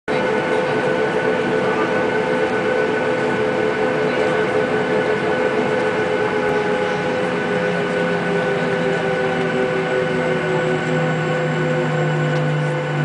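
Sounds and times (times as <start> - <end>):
jet engine whine: 0.1 - 13.0.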